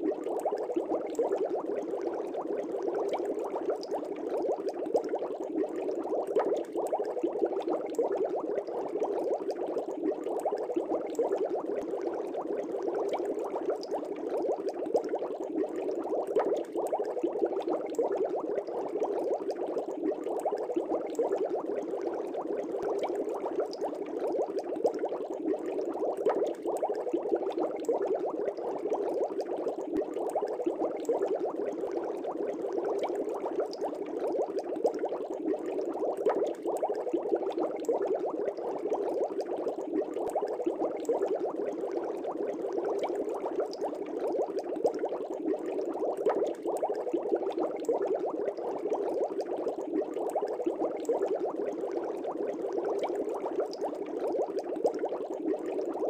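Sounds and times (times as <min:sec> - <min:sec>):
air bubbling in fish tank: 0:00.0 - 0:56.0.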